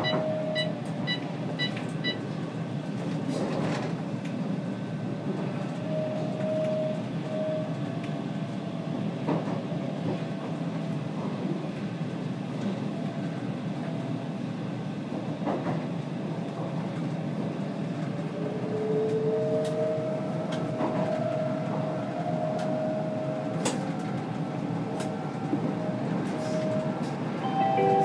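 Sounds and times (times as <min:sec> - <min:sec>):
train rumbling on track: 0:00.0 - 0:28.0.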